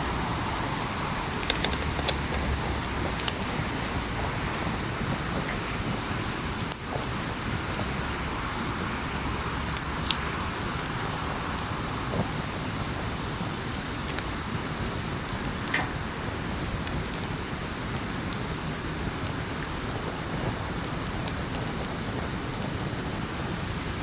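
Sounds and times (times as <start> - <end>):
campfire hissing: 0.0 - 24.0
fire crackles and pops: 0.0 - 24.0.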